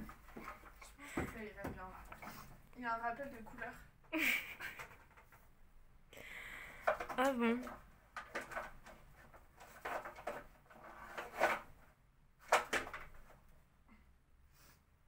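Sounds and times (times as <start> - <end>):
artificial flowers rustling and knocking: 0.0 - 5.7, 6.8 - 13.6.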